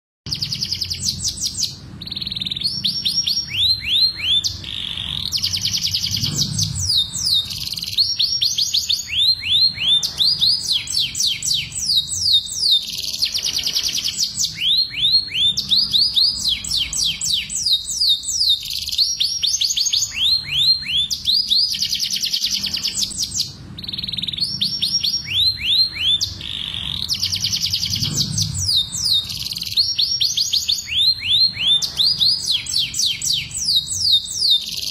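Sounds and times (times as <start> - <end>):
canaries singing trills: 0.3 - 34.9
faint low hum: 0.3 - 34.9.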